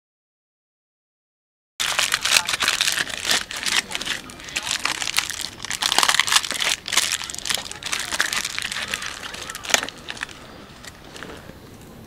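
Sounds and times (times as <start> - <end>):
wrapping crinkling: 1.8 - 11.5.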